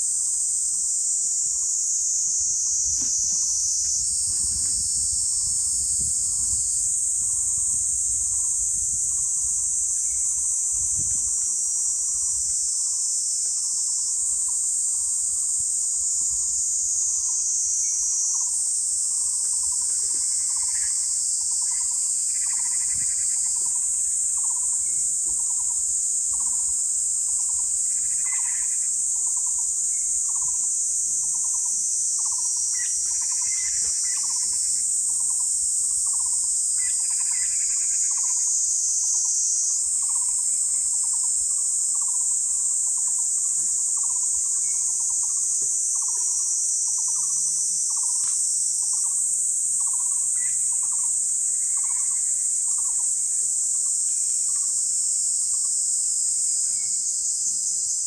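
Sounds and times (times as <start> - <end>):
high-pitched insect trilling: 0.0 - 58.0
lower pulsed insect call: 0.0 - 58.0.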